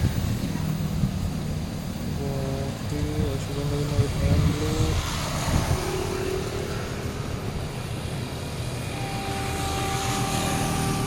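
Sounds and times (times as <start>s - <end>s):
faint engine tones: 0.0s - 11.0s
train rumble and rail noise: 0.0s - 11.0s.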